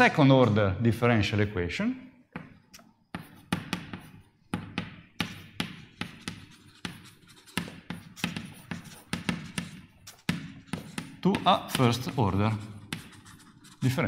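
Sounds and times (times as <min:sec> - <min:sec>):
chalk tapping and scraping: 0:02.3 - 0:14.0.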